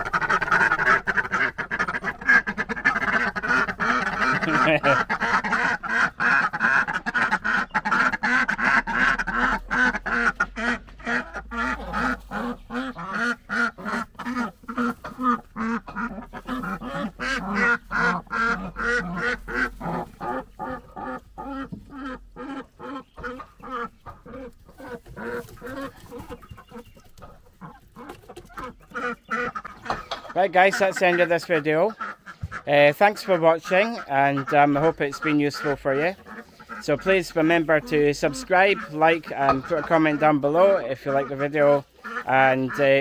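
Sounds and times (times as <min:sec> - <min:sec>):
ducks quacking: 0:00.0 - 0:43.0.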